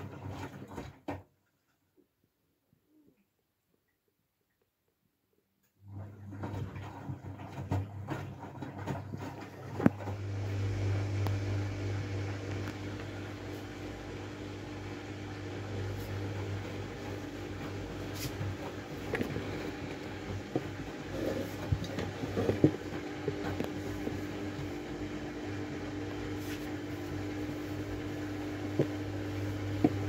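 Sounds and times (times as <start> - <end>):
washing machine motor hum: 0.0 - 1.3, 5.8 - 30.0.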